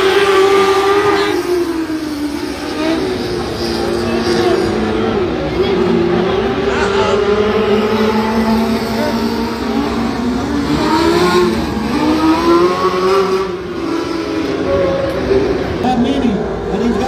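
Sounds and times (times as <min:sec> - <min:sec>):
race car engines running: 0:00.0 - 0:17.0.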